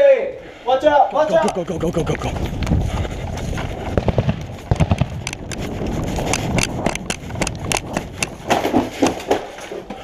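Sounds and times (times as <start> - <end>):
running footsteps on pavement: 1.1 - 10.0.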